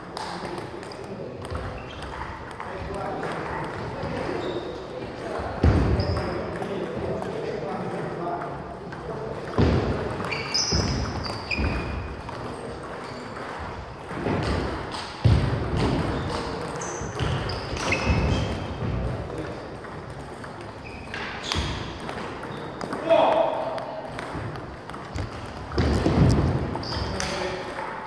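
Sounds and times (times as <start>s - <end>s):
shoes squeaking on wooden floor: 1.5s - 6.4s, 9.5s - 23.3s, 23.9s - 27.7s.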